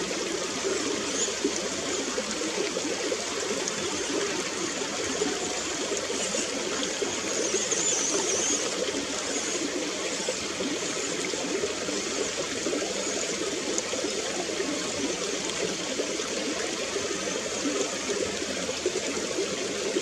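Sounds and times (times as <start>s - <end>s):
babbling running water: 0.0s - 18.6s.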